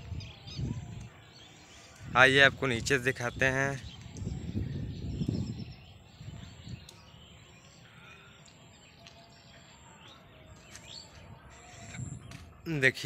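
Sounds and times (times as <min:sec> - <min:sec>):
bird chirps: 0:00.0 - 0:12.6.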